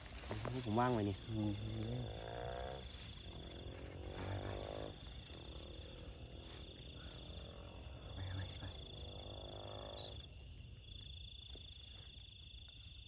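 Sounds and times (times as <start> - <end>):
insect trilling: 0.0 - 11.2.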